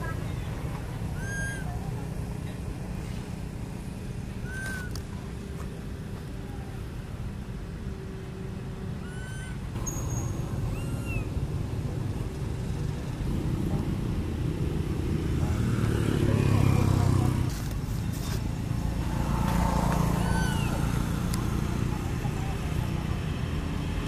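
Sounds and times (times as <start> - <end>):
passing vehicle engine rumble: 0.0 - 24.0.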